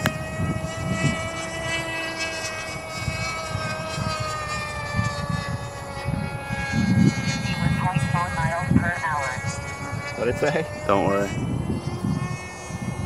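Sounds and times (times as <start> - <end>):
model plane engine whining: 0.0 - 13.0
wind rumble on microphone: 0.0 - 13.0.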